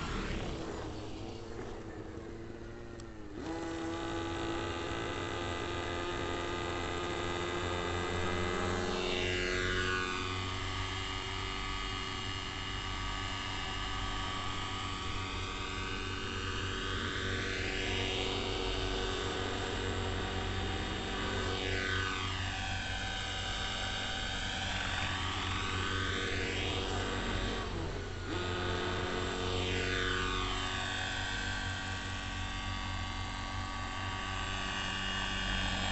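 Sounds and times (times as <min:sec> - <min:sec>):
model helicopter engine droning: 0:00.0 - 0:35.9.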